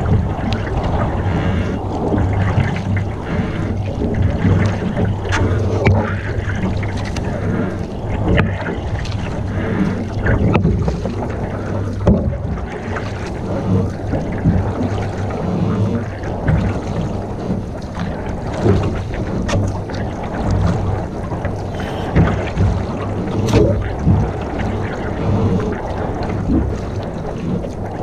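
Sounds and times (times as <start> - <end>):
low rumble on microphone: 0.0 - 28.0
water and wind noise: 0.0 - 28.0.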